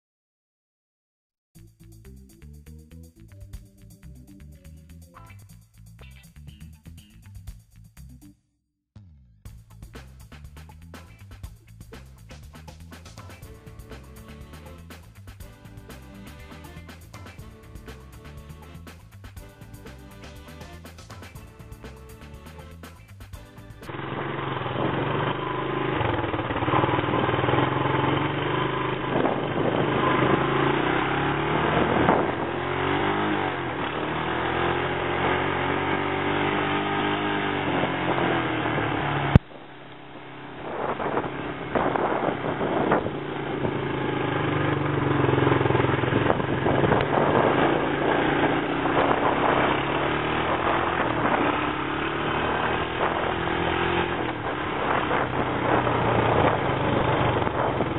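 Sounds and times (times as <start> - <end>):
engine revving: 9.0 - 57.9.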